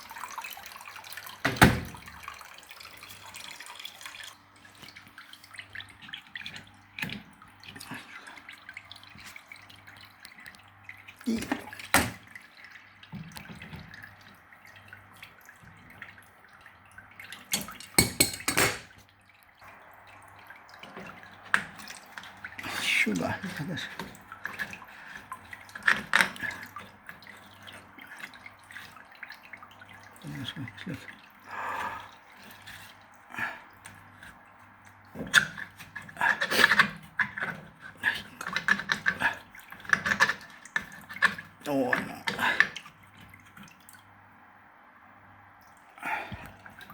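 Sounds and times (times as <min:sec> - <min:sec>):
water dripping and trickling: 0:00.0 - 0:46.9.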